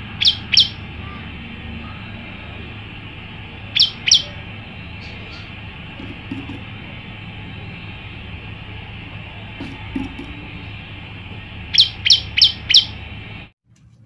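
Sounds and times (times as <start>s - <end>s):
bird high downward-sweeping calls: 0.0s - 13.5s.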